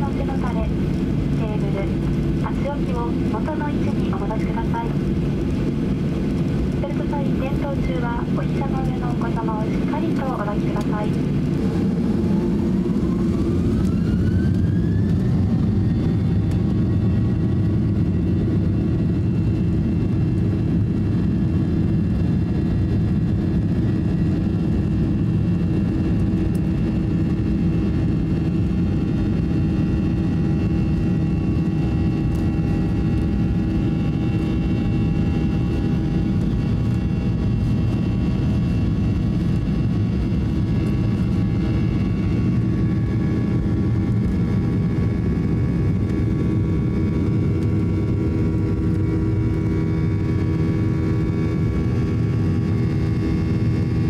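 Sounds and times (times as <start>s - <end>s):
jet engines rumbling at takeoff: 0.0s - 54.0s.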